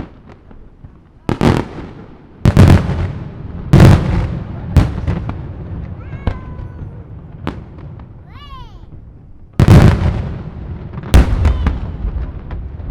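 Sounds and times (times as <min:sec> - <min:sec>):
fireworks bangs with echo: 0:00.0 - 0:12.9
small firework cracks: 0:00.0 - 0:12.9.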